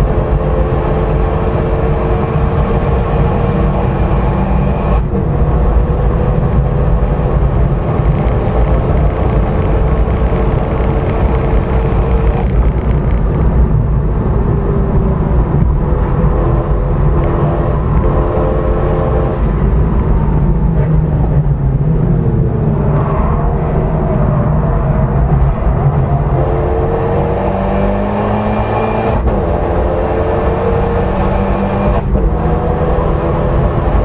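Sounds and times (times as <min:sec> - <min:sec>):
car engine under load: 0:00.0 - 0:34.0
tyre and road rumble: 0:00.0 - 0:34.0.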